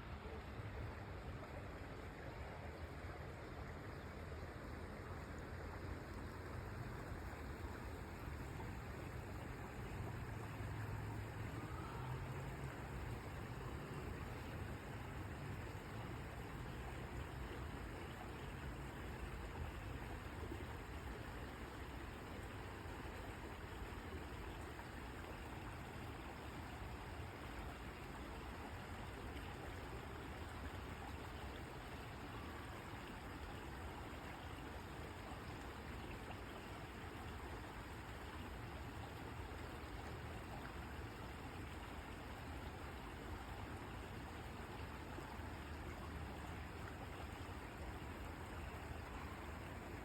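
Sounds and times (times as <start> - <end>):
flowing water rushing: 0.0 - 50.0.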